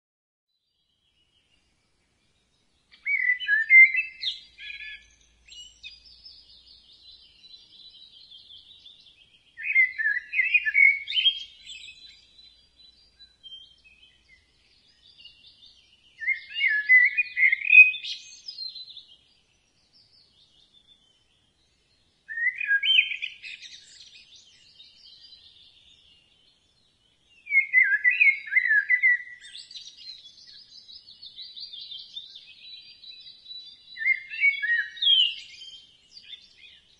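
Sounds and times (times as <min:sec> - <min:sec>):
blackbird singing: 0:00.5 - 0:36.9.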